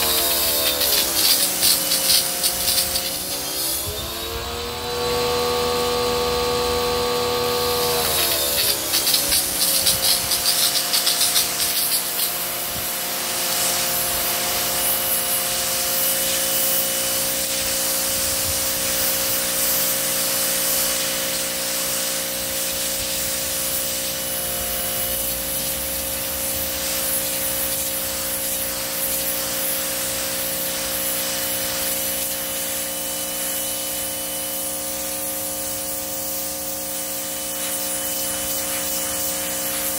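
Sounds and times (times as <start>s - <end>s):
electric pressure washer humming: 0.0s - 39.9s
water jet hissing on concrete: 0.0s - 39.9s.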